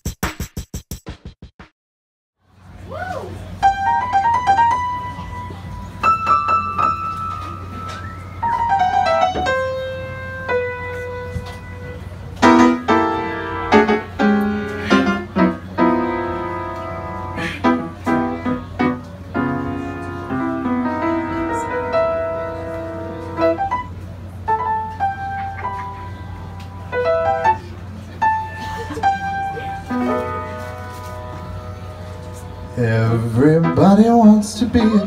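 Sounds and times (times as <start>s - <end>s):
piano playing: 3.6s - 35.0s.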